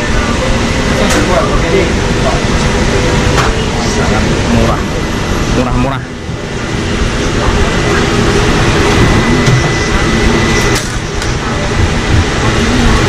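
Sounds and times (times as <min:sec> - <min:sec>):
faint voices: 0:00.0 - 0:13.0
rumbling drone of street-food stall: 0:00.0 - 0:13.0.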